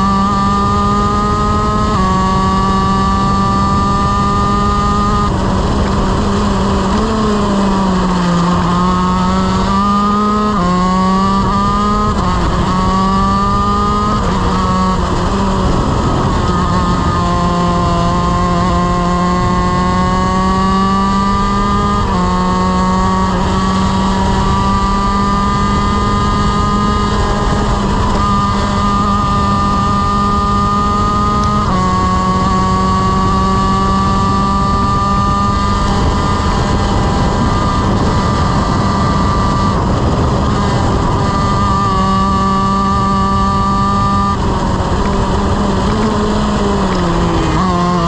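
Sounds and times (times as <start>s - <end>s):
kart engine revving: 0.0s - 48.0s.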